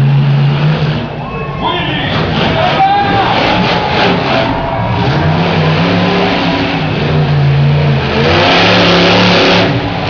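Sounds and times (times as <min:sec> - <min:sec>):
monster truck engine revving: 0:00.0 - 0:10.0.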